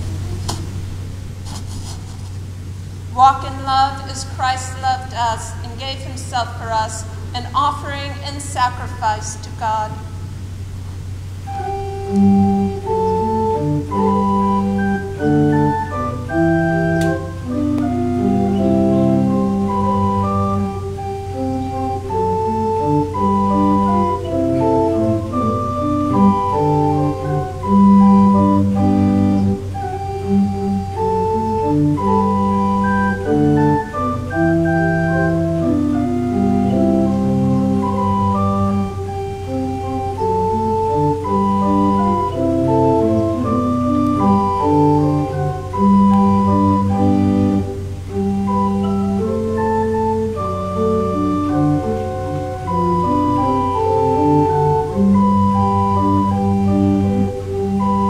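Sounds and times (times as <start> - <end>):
church organ playing chords: 3.0 - 58.0.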